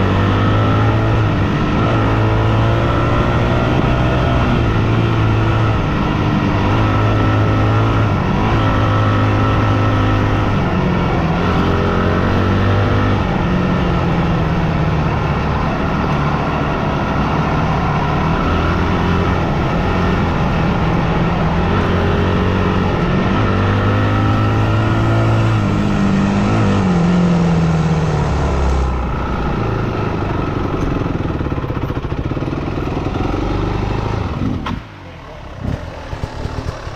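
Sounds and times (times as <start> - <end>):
dirt bike engine revving: 0.0 - 34.6, 35.3 - 36.9.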